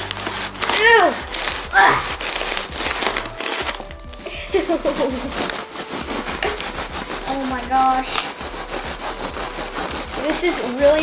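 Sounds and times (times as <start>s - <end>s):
blade sawing through papery nest: 0.0s - 11.0s.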